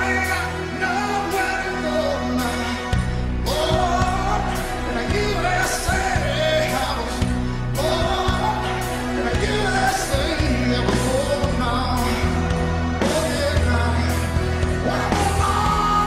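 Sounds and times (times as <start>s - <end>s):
pop music with singing: 0.0s - 16.0s.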